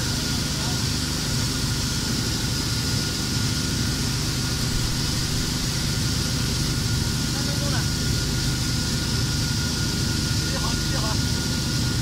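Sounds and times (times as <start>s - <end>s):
machinery low hum: 0.0s - 12.0s.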